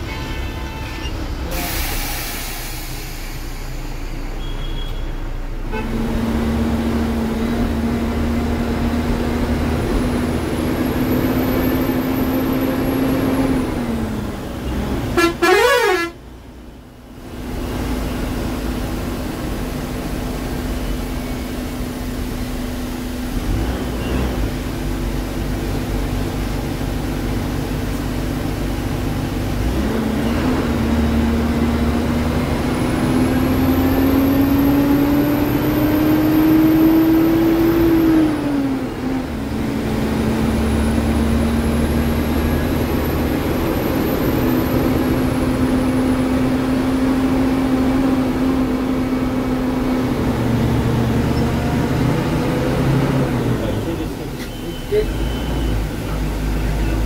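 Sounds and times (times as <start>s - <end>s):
bus engine hum: 0.0s - 57.0s.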